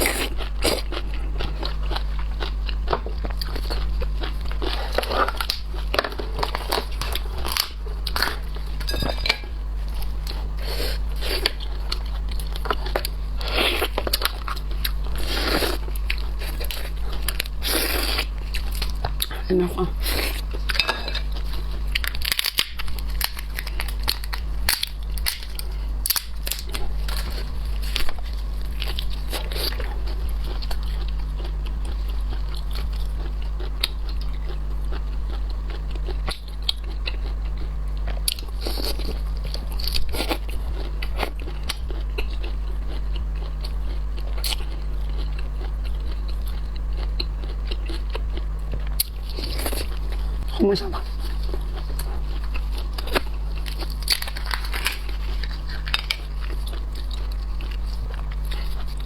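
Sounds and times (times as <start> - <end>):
crunching and chewing shellfish: 0.0 - 59.0
steady low hum: 0.0 - 59.0.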